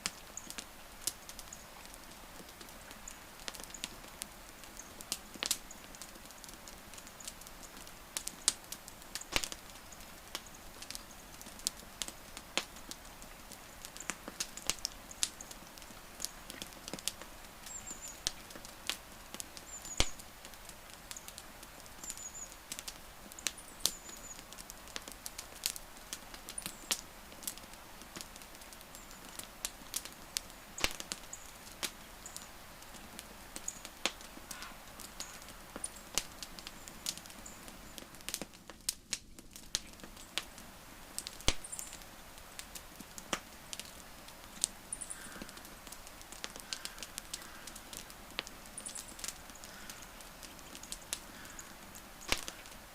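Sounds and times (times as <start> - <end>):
faint steady hiss: 0.0 - 52.9
wood fire crackling: 0.0 - 52.9.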